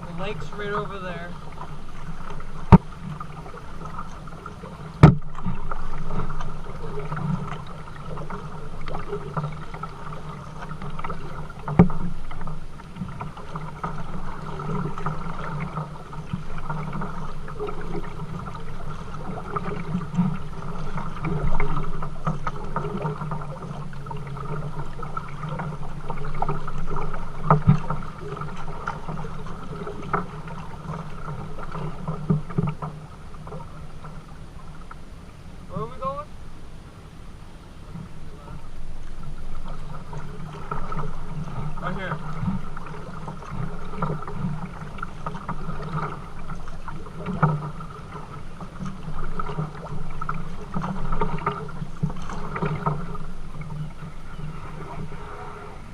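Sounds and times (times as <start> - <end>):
paddle splashing water: 0.0 - 55.9.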